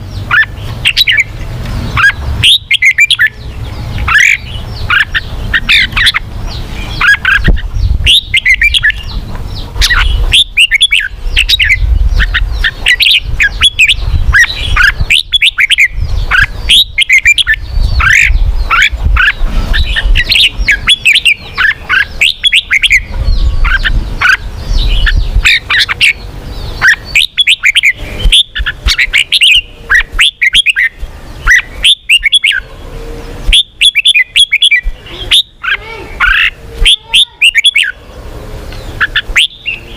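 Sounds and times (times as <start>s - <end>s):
bird singing chirps and whistles: 0.0s - 32.7s, 33.5s - 38.1s, 38.7s - 39.9s.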